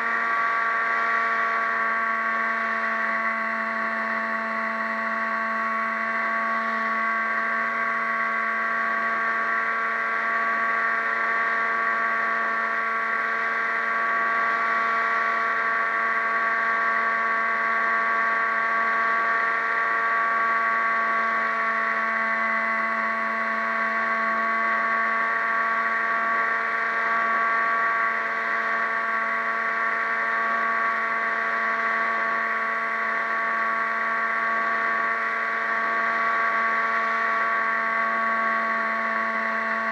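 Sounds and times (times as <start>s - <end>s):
small motor humming: 0.0s - 39.9s.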